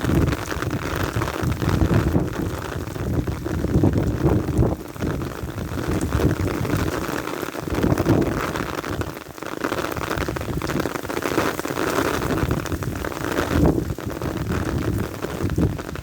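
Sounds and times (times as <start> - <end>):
strong wind gusts: 0.0 - 9.2, 9.9 - 16.0
heavy rain on umbrella: 0.0 - 16.0.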